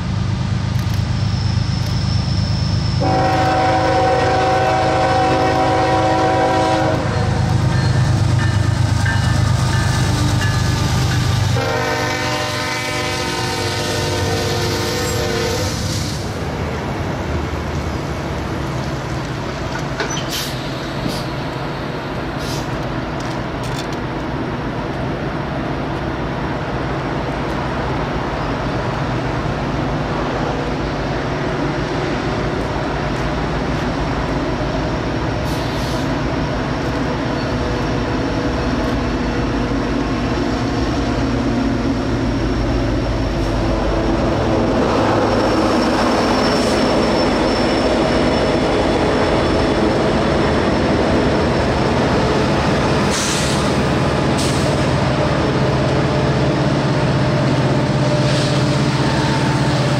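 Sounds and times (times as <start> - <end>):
locomotive engine droning: 0.0 - 59.9.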